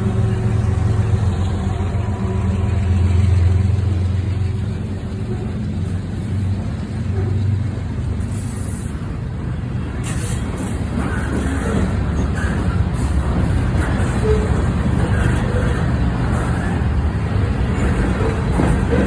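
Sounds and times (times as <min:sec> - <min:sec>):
train diesel engine humming: 0:00.0 - 0:19.0.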